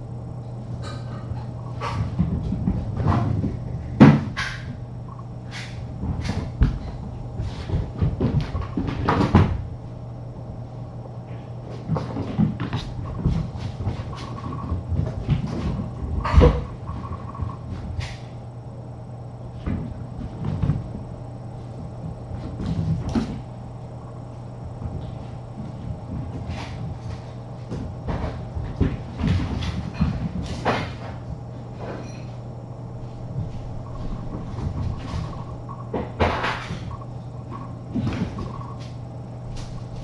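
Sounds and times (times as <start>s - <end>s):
steady low hum: 0.0s - 40.0s
kittens knocking and scuffling: 0.8s - 9.7s, 11.3s - 18.4s, 19.6s - 32.4s, 33.0s - 40.0s.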